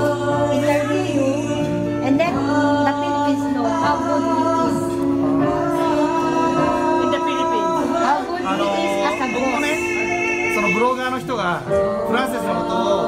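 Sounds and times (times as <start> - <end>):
held accompanying notes: 0.0 - 13.0.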